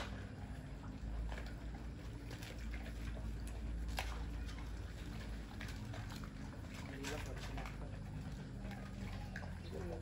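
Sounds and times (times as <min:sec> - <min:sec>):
dogs chewing meat: 0:00.0 - 0:10.0.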